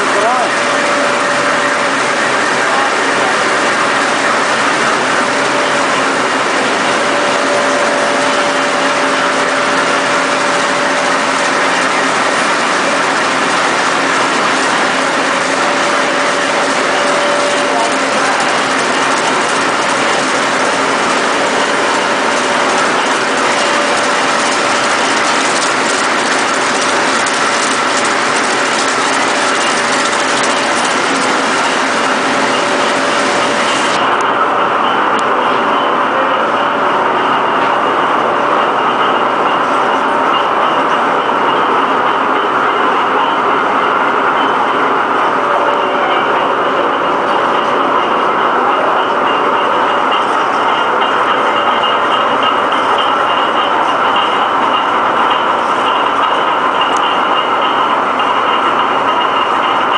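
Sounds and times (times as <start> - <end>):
mid-pitched machine whine: 0.0 - 59.9
printing press running: 0.0 - 59.9.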